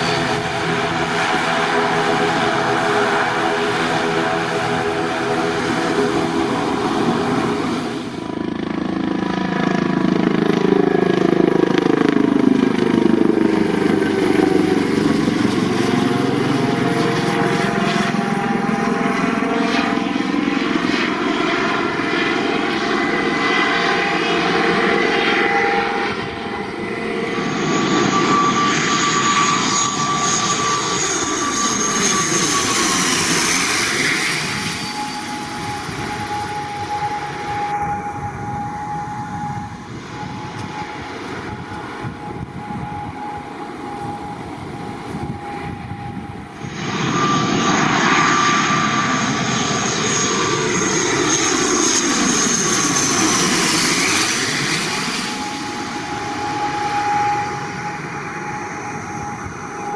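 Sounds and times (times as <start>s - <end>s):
helicopter passing overhead: 0.0s - 59.9s
turboprop engines at high power: 0.0s - 59.9s
turboprop plane whining overhead: 0.0s - 59.9s.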